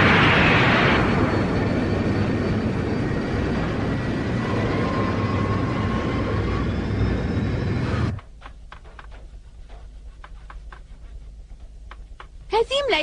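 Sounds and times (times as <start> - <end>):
faint whining tones: 0.0 - 13.0.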